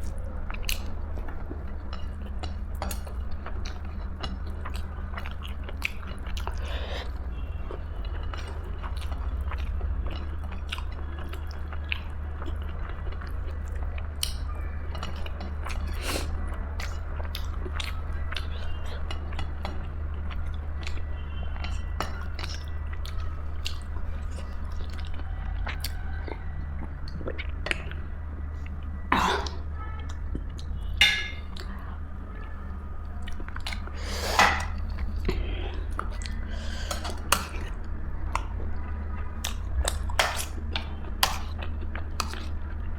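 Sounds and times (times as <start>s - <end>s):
person chewing: 0.0s - 31.8s, 33.2s - 42.9s
steady low hum: 0.0s - 42.9s.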